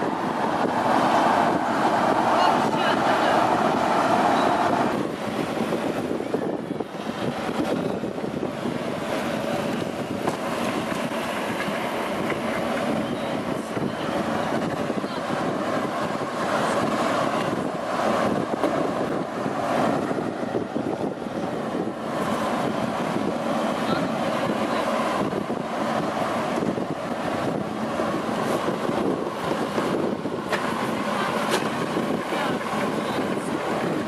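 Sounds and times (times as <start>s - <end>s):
road noise: 0.0s - 34.0s
wind rushing over microphone: 0.0s - 34.0s.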